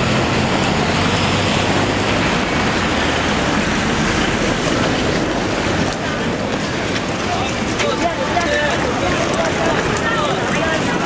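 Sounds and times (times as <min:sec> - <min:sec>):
street traffic rushing: 0:00.0 - 0:11.0.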